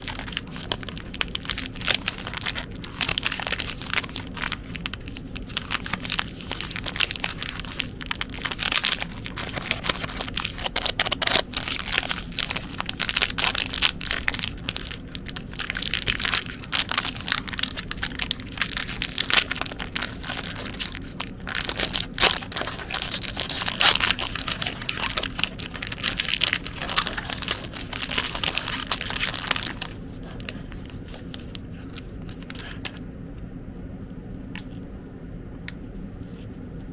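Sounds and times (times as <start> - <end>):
packaging crinkling: 0.0 - 33.0
packaging tearing: 0.0 - 33.0.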